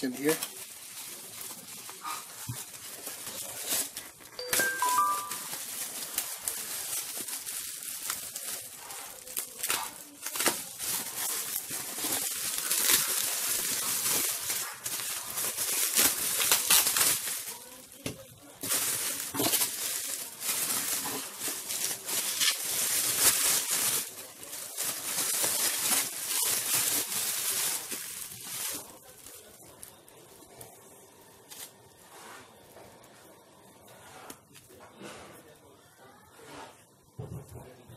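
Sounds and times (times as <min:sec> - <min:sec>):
bubble wrap crinkling: 0:00.0 - 0:34.8.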